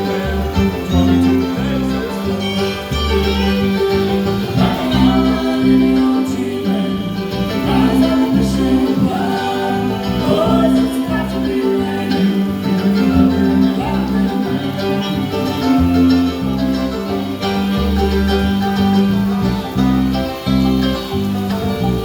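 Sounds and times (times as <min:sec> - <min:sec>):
low bass line: 0:00.0 - 0:22.0
plucked acoustic guitar: 0:00.0 - 0:22.0.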